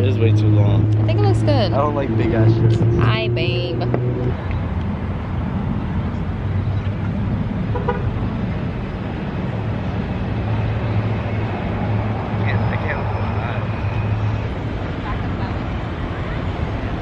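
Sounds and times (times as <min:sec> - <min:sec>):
low engine-like hum: 0:00.0 - 0:17.0
traffic noise: 0:00.0 - 0:17.0.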